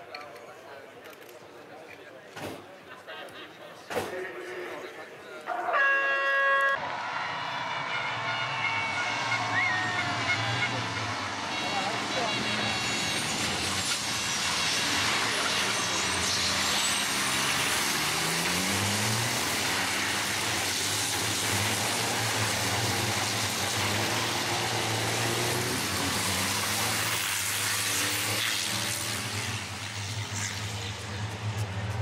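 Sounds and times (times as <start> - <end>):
racing truck diesel engines: 0.0 - 32.0.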